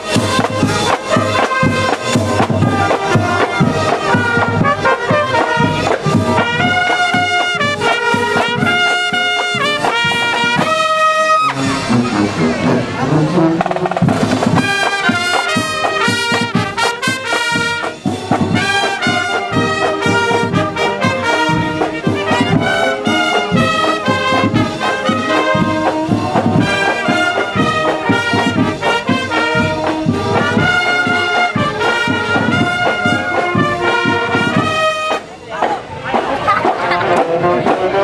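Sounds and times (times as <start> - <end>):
brass marching band playing: 0.0 - 38.0
drums beating: 0.0 - 38.0.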